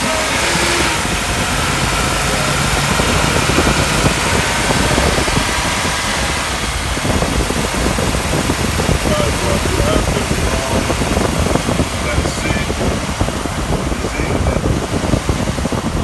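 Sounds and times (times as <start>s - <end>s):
van engine idling: 0.0s - 16.0s.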